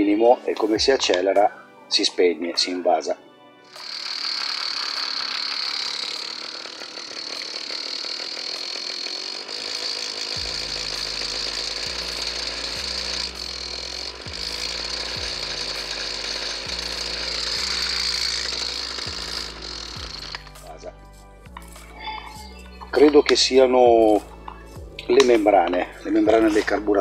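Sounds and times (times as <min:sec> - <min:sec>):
two-stroke engine whining: 0:03.7 - 0:27.0.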